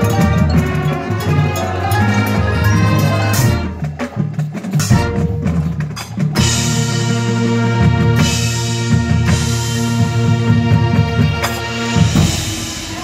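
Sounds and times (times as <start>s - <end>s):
sharp percussion hits: 0.0s - 10.4s
marching band playing: 0.0s - 13.0s.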